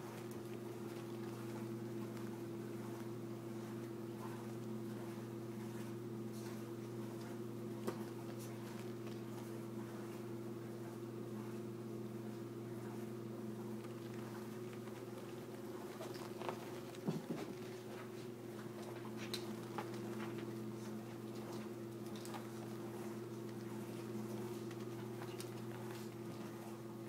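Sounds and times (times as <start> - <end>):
dog paws tapping and scuffling: 0.0 - 11.0, 13.7 - 26.8
steady low hum: 0.0 - 27.0.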